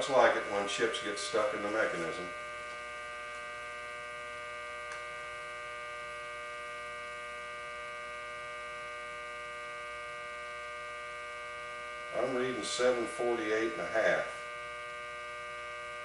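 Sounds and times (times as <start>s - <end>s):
machine hum with whining tones: 0.0s - 16.0s.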